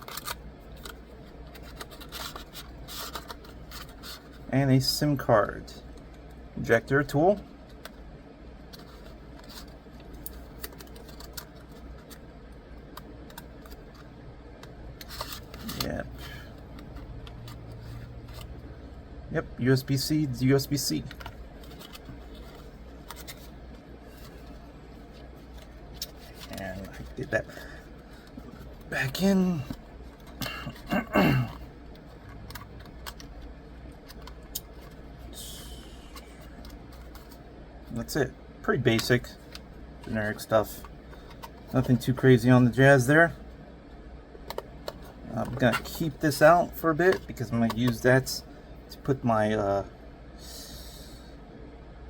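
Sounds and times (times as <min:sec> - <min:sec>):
faint low hum: 0:00.0 - 0:52.0.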